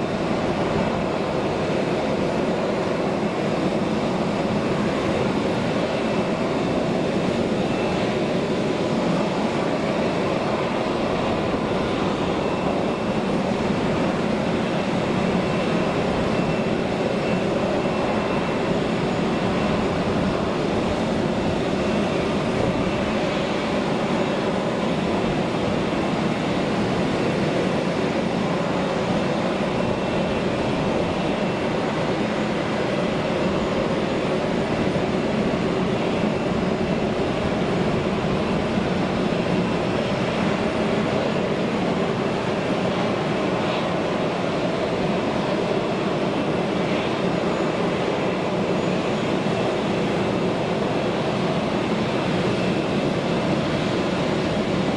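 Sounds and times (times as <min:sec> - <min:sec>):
jet engines idling and taxiing: 0:00.0 - 0:54.9.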